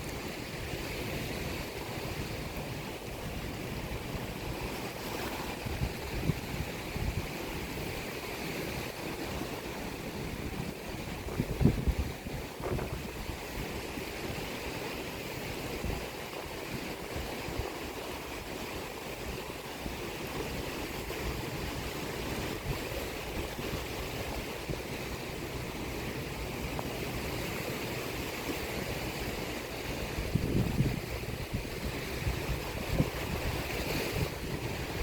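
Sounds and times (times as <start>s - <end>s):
sea surf washing on shore: 0.0s - 35.0s
wind rumble on microphone: 0.0s - 35.0s.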